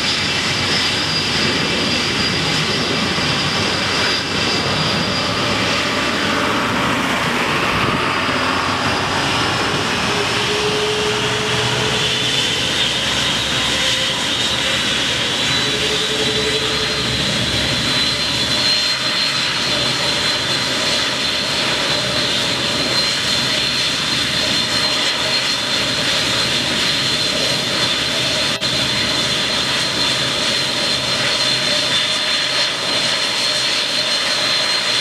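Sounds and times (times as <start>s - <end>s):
jet engine fan whine: 0.0s - 35.0s
rushing jet noise: 0.0s - 35.0s.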